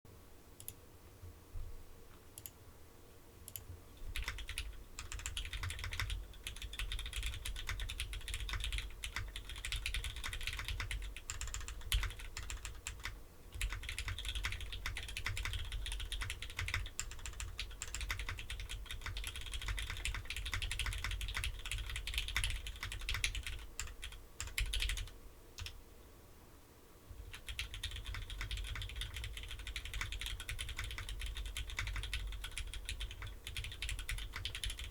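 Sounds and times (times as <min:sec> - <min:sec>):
mechanical keyboard typing: 0:03.5 - 0:25.8, 0:27.2 - 0:34.9.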